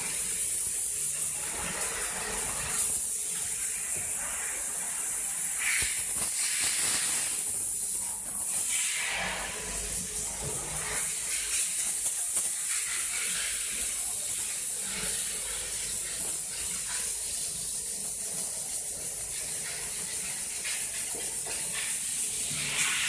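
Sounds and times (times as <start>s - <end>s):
high-pitched hiss: 0.0s - 19.2s.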